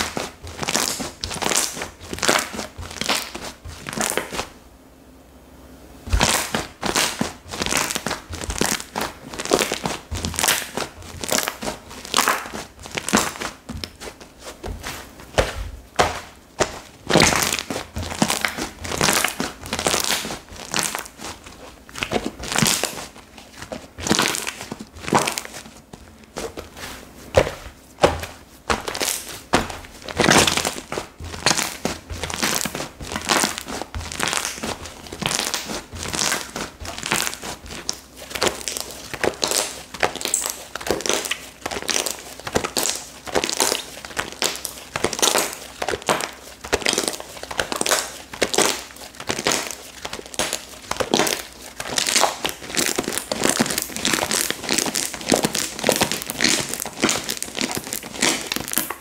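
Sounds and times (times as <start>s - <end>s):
slime crackling and popping: 0.0s - 4.6s, 6.1s - 59.0s.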